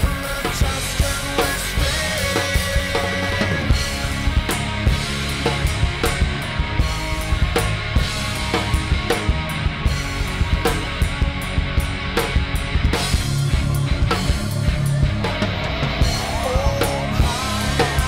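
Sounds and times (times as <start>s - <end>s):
recorded rock song: 0.0s - 18.0s
rock drum kit playing: 0.0s - 18.0s.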